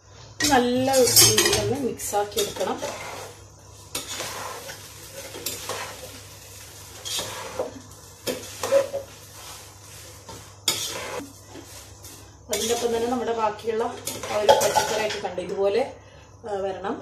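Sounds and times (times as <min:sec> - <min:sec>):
rice sizzling: 0:00.0 - 0:15.8
spatula scraping a pot: 0:00.8 - 0:13.3, 0:14.0 - 0:15.2.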